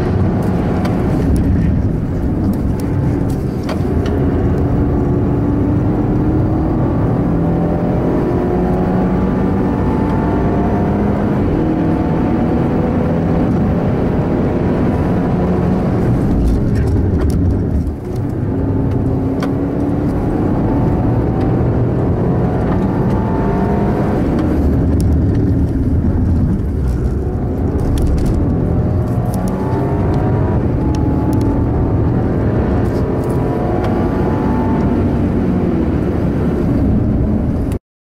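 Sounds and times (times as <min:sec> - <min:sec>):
car engine revving hard: 0:03.8 - 0:17.8, 0:18.4 - 0:37.6.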